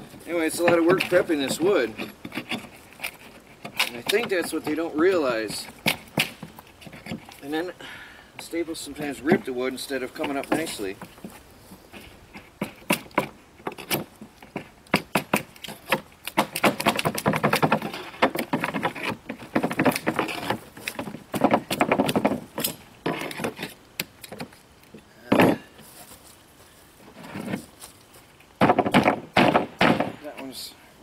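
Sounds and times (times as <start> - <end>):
wood crunching: 0.0 - 7.8, 8.4 - 30.6.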